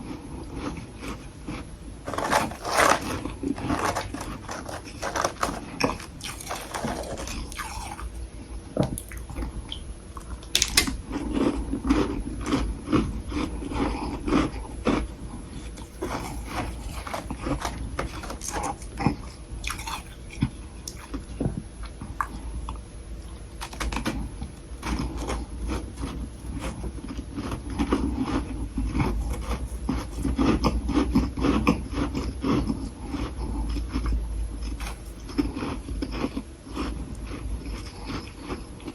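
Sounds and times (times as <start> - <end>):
chewing crunchy frost: 0.0 - 38.9.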